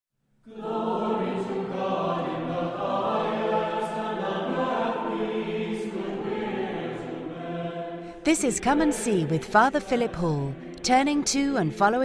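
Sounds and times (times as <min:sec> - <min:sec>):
choir singing a slow chant: 0:00.4 - 0:12.0.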